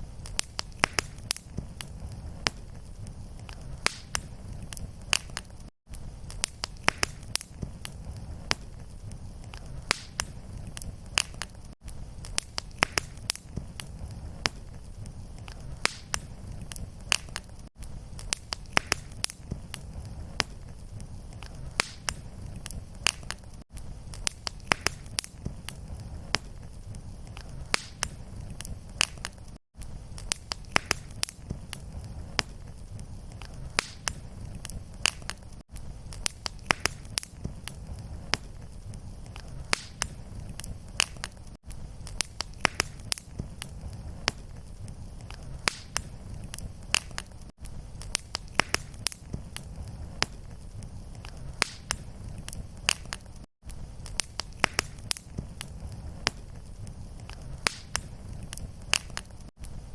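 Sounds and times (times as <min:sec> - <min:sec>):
fire crackling and popping: 0:00.0 - 0:59.9
low rumble of fire: 0:00.0 - 0:59.9.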